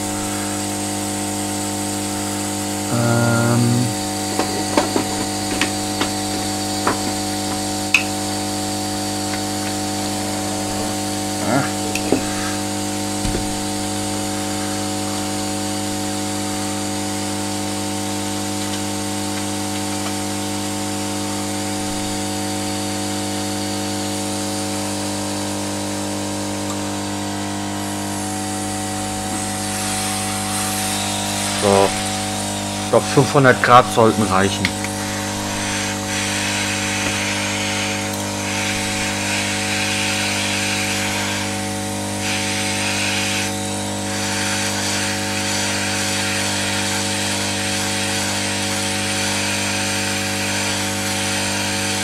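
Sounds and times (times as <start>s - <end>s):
hot-air gun blowing: 0.0s - 52.0s.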